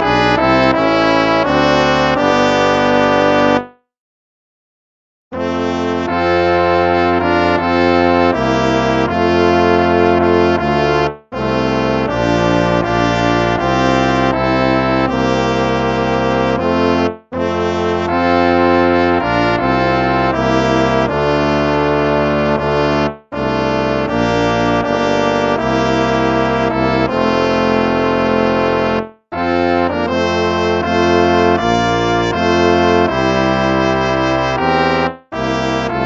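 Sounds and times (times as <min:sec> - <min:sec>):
instrumental hymn music: 0:00.0 - 0:03.8, 0:05.4 - 0:36.0.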